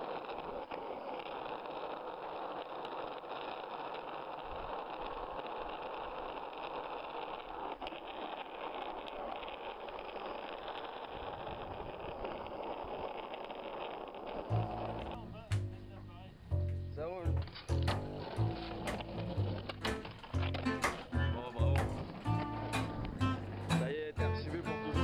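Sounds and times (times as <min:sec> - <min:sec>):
skateboard wheels rolling on asphalt: 0:00.0 - 0:25.0
faint clicks: 0:00.2 - 0:25.0.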